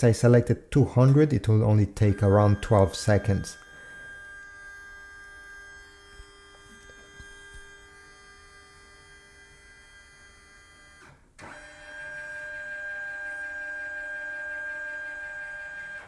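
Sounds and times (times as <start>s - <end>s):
scanner motor whining: 1.5s - 16.0s.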